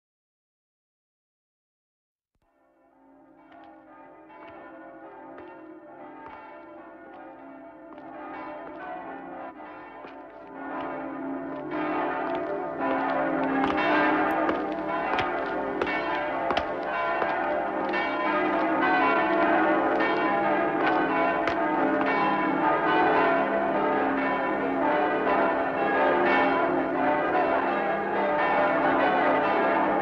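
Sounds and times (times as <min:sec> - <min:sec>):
church bells ringing: 0:02.6 - 0:30.0.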